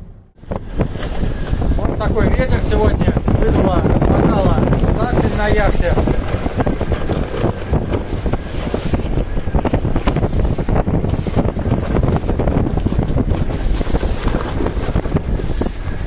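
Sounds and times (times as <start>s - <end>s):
choppy water around boat: 0.0s - 16.0s
strong gusty wind on microphone: 0.0s - 16.0s.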